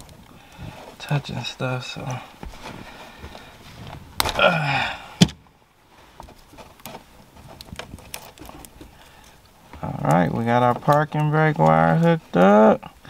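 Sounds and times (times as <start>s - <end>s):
wiring harness clicks and rustles: 0.0s - 4.6s, 5.2s - 13.0s.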